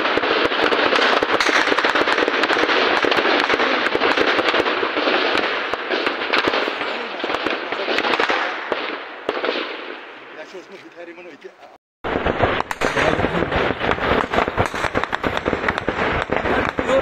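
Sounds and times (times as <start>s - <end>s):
rapid gunfire: 0.0s - 10.1s, 12.1s - 17.0s.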